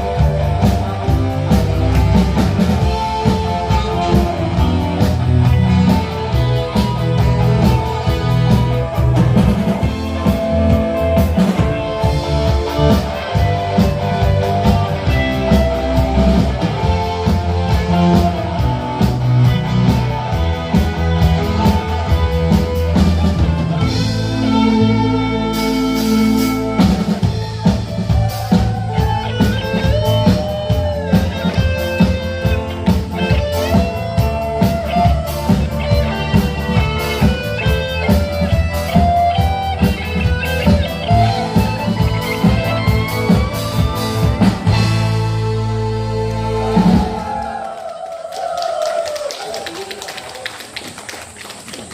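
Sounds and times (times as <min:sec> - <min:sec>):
bending lead guitar lines: 0:00.0 - 0:47.3
instrumental rock band: 0:00.0 - 0:47.7.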